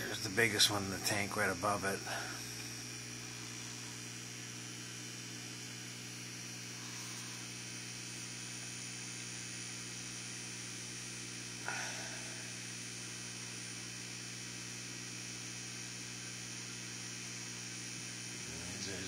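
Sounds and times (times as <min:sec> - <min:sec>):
aquarium air pump bubbling: 0:00.0 - 0:18.5.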